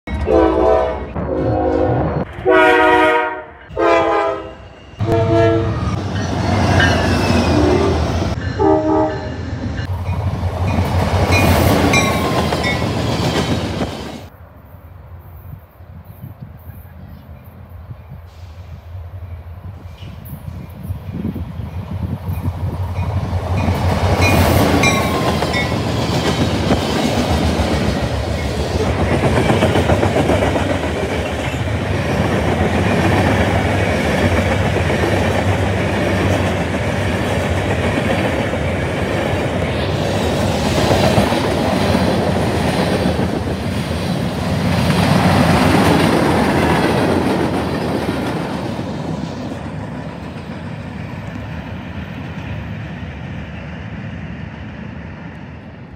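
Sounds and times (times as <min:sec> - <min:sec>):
freight train rumble: 0:00.1 - 0:55.9.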